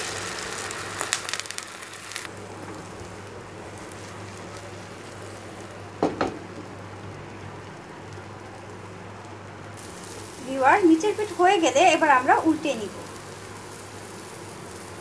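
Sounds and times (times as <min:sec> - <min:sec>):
egg sizzling in a pan: 0:00.0 - 0:15.0.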